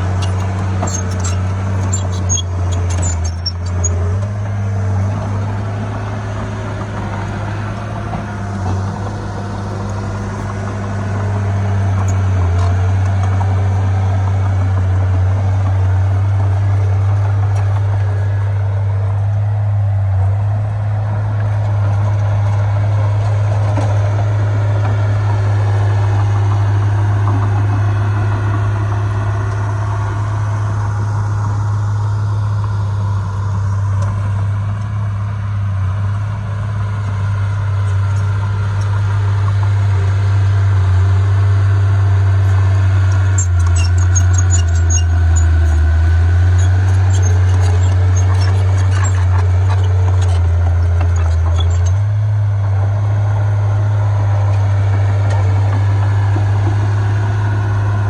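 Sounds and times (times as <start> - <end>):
heavy diesel engine droning: 0.0 - 58.0.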